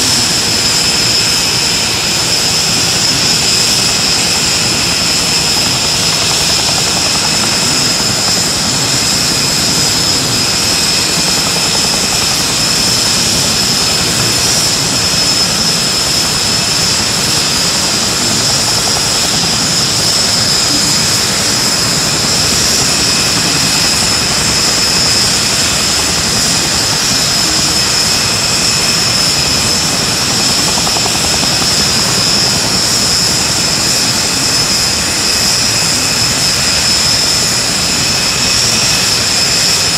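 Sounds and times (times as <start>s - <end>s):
aircraft engine running: 0.0s - 39.9s
high-pitched engine whine: 0.0s - 39.9s.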